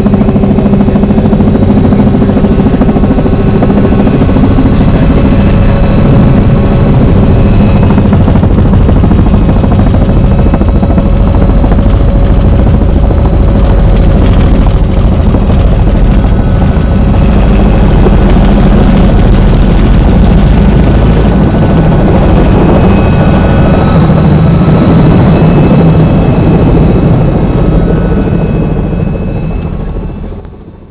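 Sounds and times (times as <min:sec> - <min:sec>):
helicopter rotor and engine: 0:00.0 - 0:30.9
high whine: 0:00.0 - 0:30.9.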